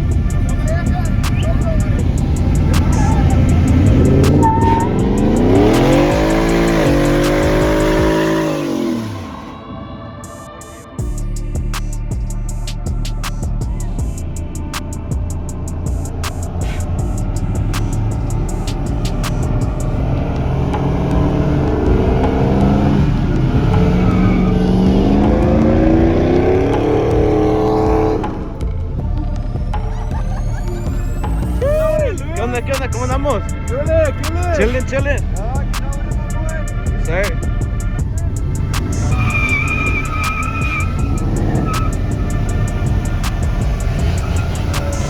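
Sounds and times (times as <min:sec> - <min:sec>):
vehicle engine revving: 0:00.0 - 0:09.5, 0:11.0 - 0:45.0
background music with beat: 0:00.0 - 0:45.0.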